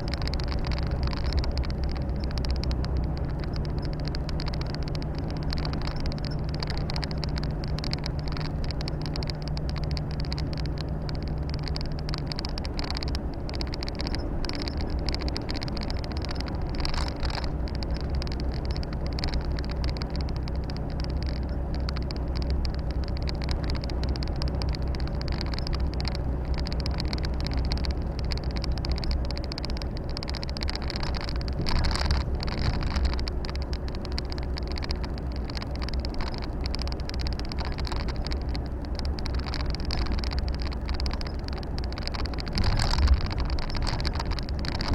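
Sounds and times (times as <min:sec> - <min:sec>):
truck diesel engine drone: 0:00.0 - 0:44.9
tyre and wind noise: 0:00.0 - 0:44.9.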